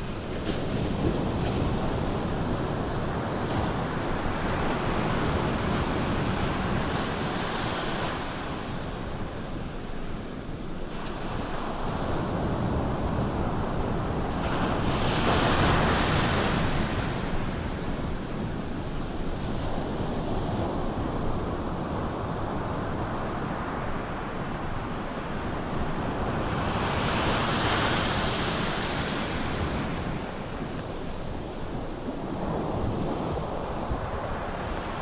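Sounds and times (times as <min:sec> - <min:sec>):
ocean surf on sandy beach: 0:00.0 - 0:35.0.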